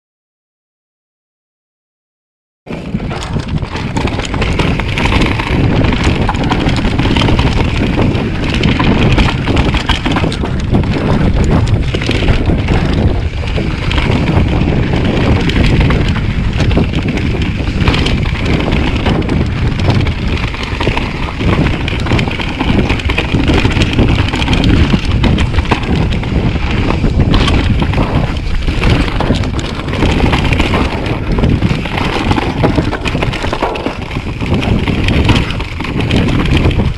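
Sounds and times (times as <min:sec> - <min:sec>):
bike tyres rumbling on dirt trail: 0:02.7 - 0:36.9
wind buffeting microphone: 0:02.7 - 0:36.9.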